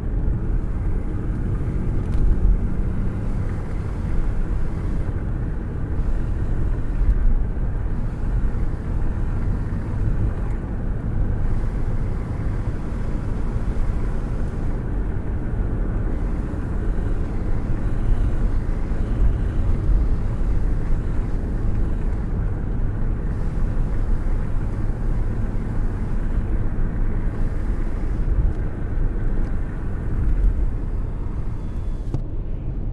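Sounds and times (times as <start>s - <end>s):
road and engine rumble: 0.0s - 32.9s
wind buffeting at car window: 0.0s - 32.9s.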